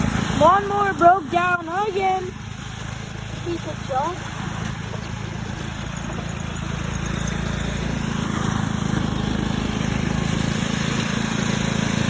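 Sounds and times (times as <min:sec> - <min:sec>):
rolling and rattling noise: 0:00.0 - 0:11.6
vehicle engine humming: 0:00.0 - 0:12.0.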